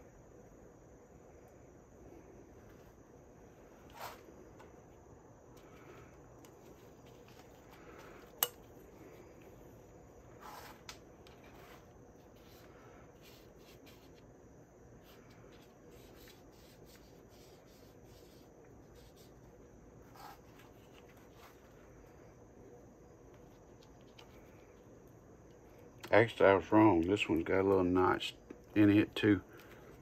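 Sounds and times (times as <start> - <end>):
hand rubbing and handling noises: 1.3 - 30.0.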